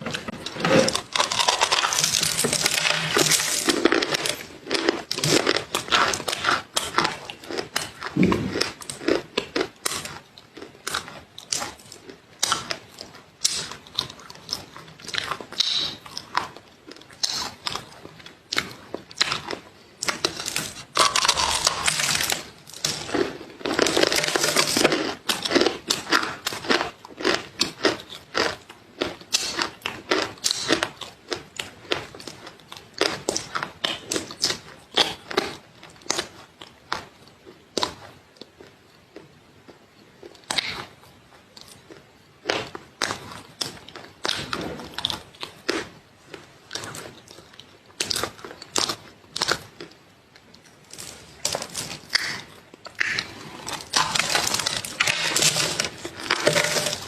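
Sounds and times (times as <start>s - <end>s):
crunchy food chewing: 0.0s - 57.0s.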